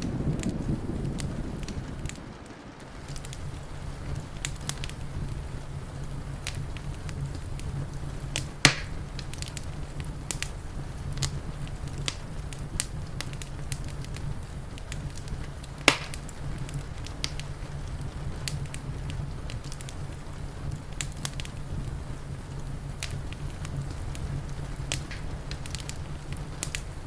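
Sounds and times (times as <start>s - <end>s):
fire popping: 0.0s - 27.0s
steady low rumble: 0.0s - 27.0s
wood fire crackling: 0.0s - 27.0s.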